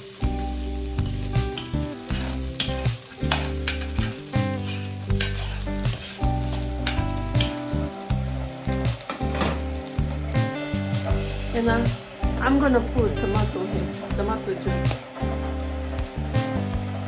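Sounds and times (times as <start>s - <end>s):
food sizzling in a pot: 0.0s - 17.0s
music with deep bass beat: 0.0s - 17.0s.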